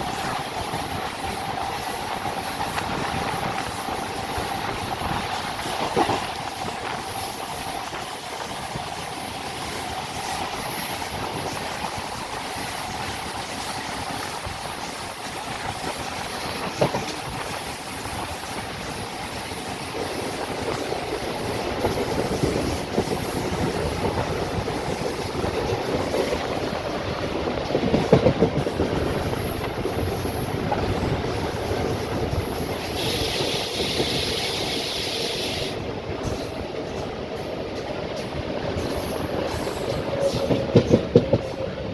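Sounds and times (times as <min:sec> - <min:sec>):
train wheels clattering on track: 0:00.0 - 0:41.9.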